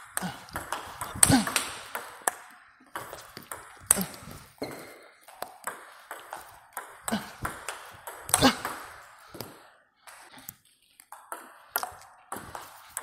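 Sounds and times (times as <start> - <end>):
table tennis ball clicking on bats: 0.0 - 13.0
ball bouncing on table: 0.1 - 9.6, 11.1 - 13.0.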